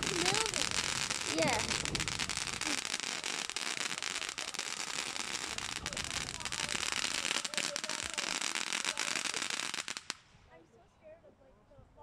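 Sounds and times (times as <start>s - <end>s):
firework crackling: 0.0s - 10.3s.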